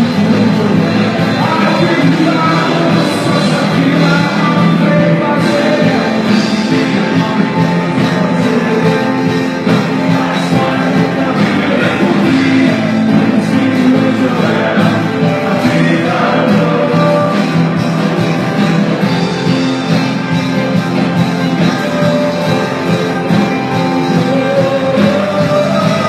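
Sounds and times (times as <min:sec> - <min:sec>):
person singing long notes: 0:00.0 - 0:18.6, 0:21.8 - 0:26.0
worship band playing: 0:00.0 - 0:26.0.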